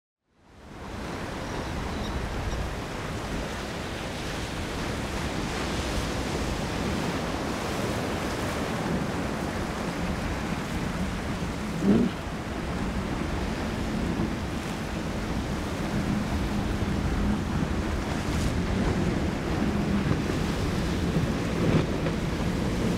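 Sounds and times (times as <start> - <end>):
wind and waves rushing: 0.4 - 22.9.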